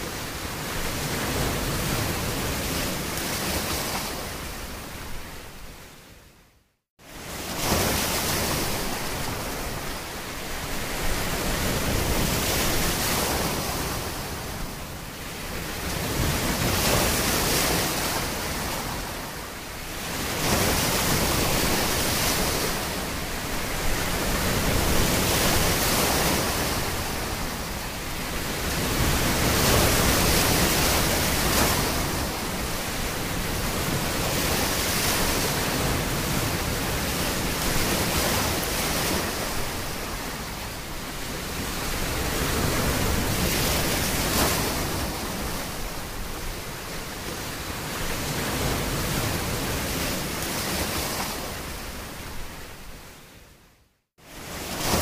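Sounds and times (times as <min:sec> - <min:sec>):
ocean waves washing: 0:07.0 - 0:53.6, 0:54.2 - 0:55.0.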